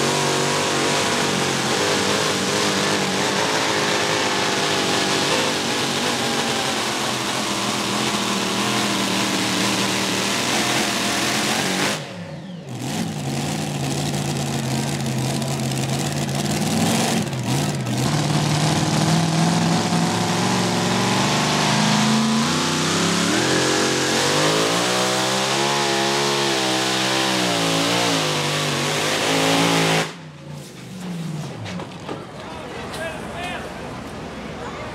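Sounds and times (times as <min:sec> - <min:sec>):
tractor engine running hard: 0:00.0 - 0:30.5.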